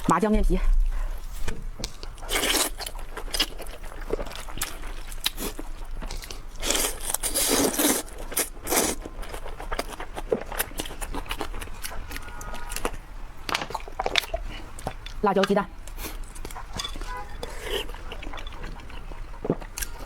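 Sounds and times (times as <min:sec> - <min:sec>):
wet chewing and lip smacks: 0:00.9 - 0:20.0.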